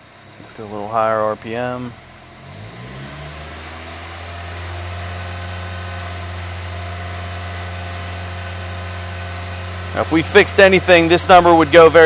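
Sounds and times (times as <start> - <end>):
car engine revving steadily: 0.0 - 12.0.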